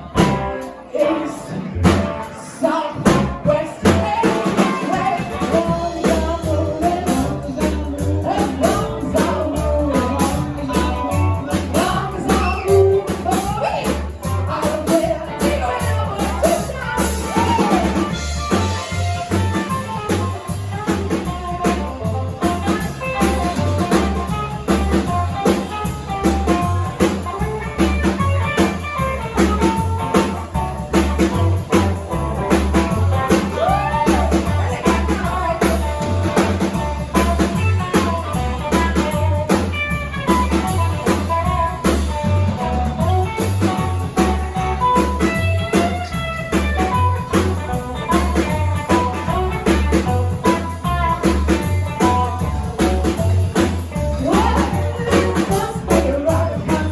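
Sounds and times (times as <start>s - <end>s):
person singing: 0.0s - 56.9s
rock band playing: 0.0s - 56.9s.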